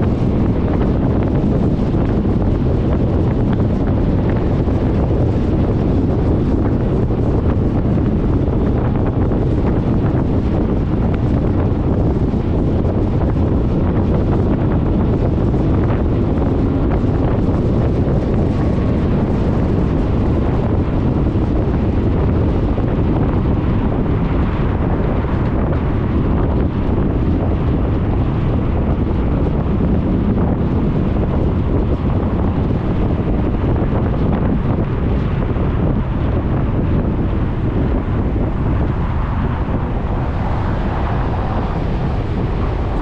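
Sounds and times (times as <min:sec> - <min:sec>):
scooter engine and road noise: 0:00.0 - 0:43.0
wind buffeting microphone: 0:00.0 - 0:43.0.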